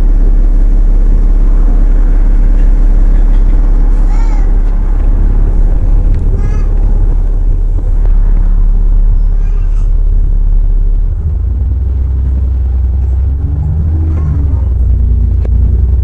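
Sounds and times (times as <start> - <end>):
bus engine and road drone: 0.0 - 16.0.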